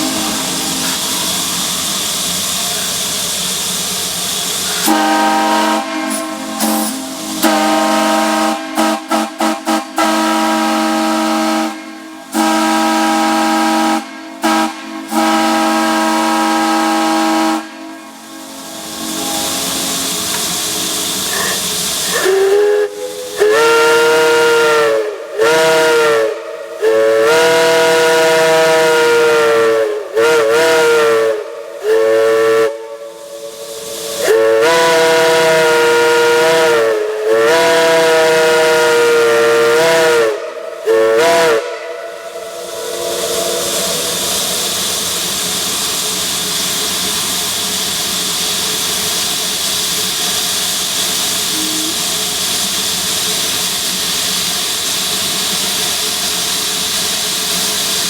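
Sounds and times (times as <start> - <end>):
steam hissing: 0.0 - 58.0
steam locomotive whistle blasts: 0.0 - 58.0.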